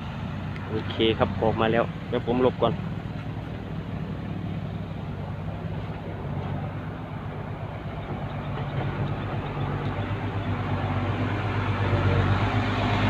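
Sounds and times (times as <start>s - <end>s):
dump truck engine running: 0.0s - 13.0s.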